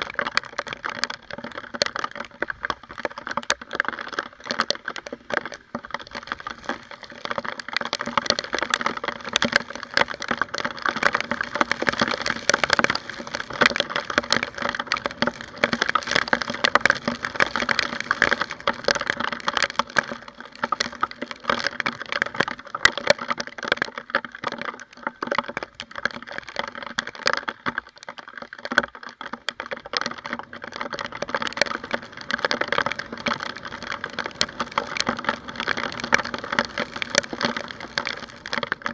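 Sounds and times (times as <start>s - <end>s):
raindrops ticking on plastic housing: 0.0s - 38.9s.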